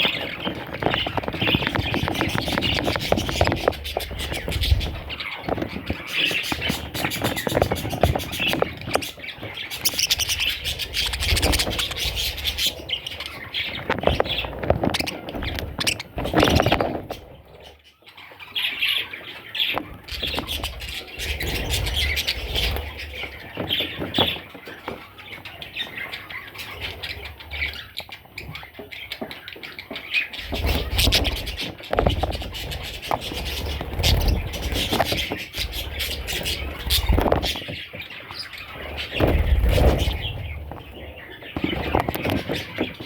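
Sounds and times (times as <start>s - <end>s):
budgerigars chirping and squawking: 0.0s - 43.0s.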